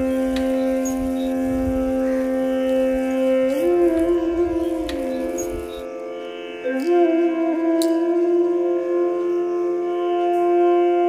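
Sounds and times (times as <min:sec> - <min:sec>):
indian classical instrumental music: 0:00.0 - 0:11.0.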